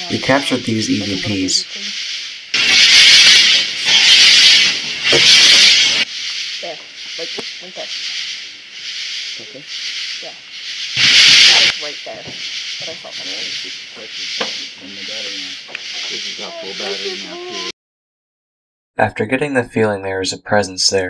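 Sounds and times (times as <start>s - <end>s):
burst of hiss: 0.0s - 17.7s
pulsing hiss: 0.0s - 17.7s.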